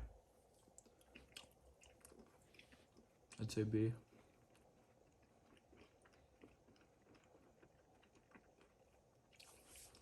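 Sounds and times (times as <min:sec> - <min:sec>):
soft clicks of chewing: 0:00.5 - 0:10.0.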